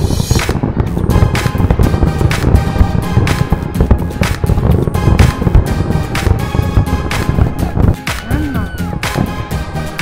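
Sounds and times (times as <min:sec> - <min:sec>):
loud music with steady beat: 0:00.0 - 0:10.0.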